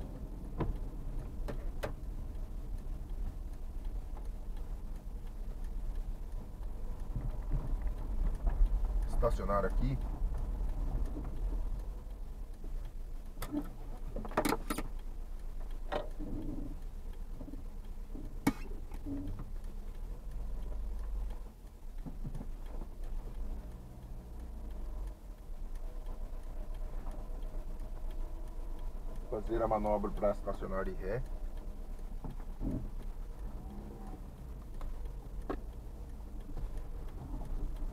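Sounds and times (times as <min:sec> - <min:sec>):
car engine and tyres rumbling: 0:00.0 - 0:37.9.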